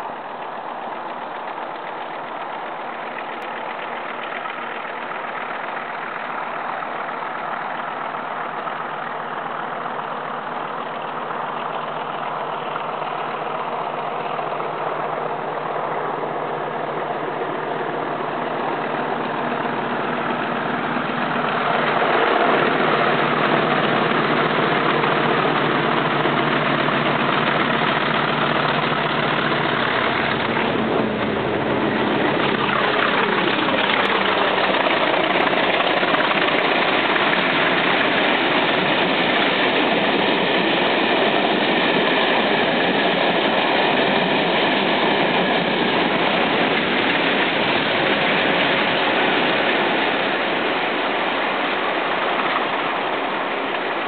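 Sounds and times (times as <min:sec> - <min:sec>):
diesel locomotive engine thrashing: 0:00.0 - 0:54.0.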